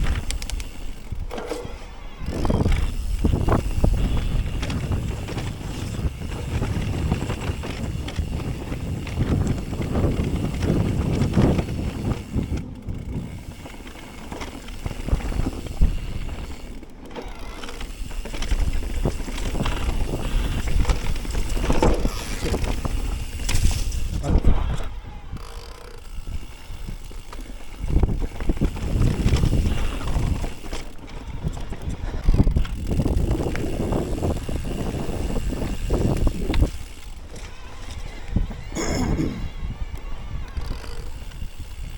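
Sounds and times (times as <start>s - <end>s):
bike frame rattling: 0.0s - 41.9s
bike tyres rumbling on ground: 0.0s - 41.9s
wind buffeting microphone: 0.0s - 41.9s.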